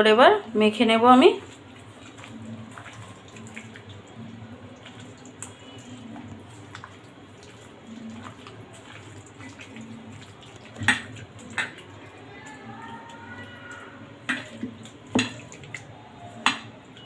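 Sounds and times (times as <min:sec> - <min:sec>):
hand squelching meat in marinade: 0:01.3 - 0:16.8.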